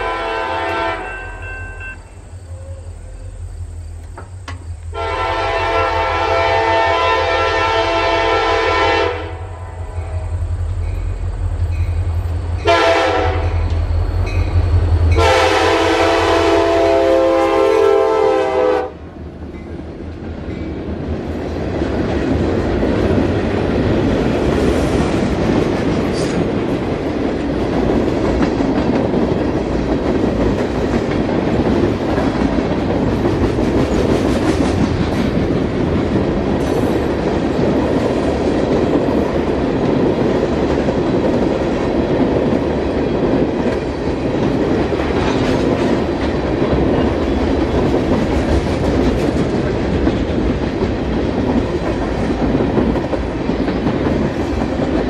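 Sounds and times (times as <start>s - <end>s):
freight train rolling on rails: 0.0s - 55.0s.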